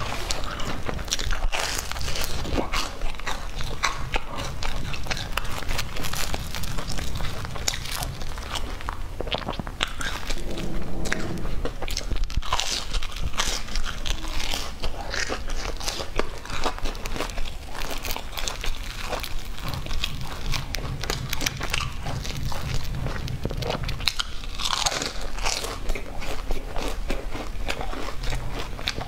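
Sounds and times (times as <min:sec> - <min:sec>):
biting and chewing crusty bread: 0:00.0 - 0:10.8, 0:11.8 - 0:29.0.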